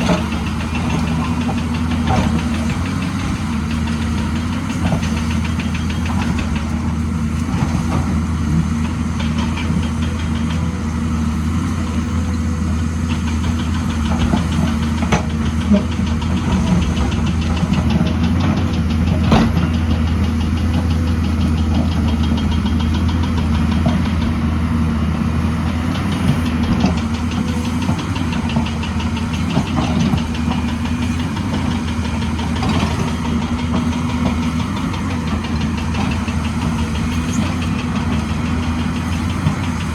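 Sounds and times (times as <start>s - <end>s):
diesel engine running: 0.0s - 39.9s
knocks and clanks: 0.0s - 39.9s.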